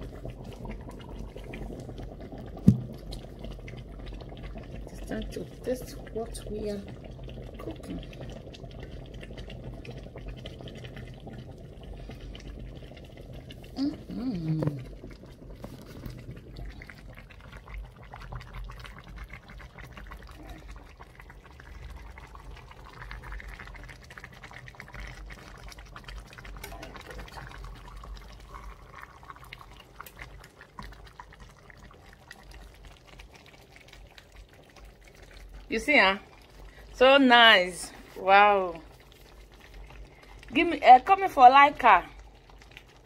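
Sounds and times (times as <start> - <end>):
thick soup bubbling: 0.0 - 43.0.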